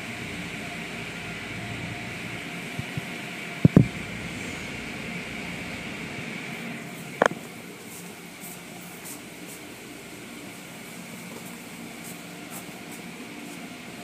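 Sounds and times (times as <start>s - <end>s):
car wash machinery humming: 0.0s - 14.0s.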